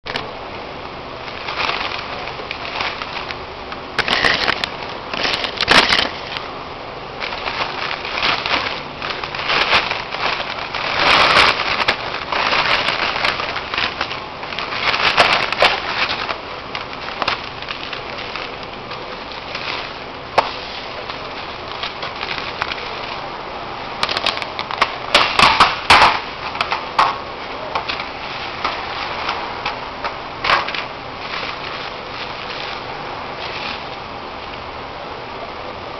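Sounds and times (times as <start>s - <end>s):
paper bag and foil crinkling: 0.1s - 35.0s.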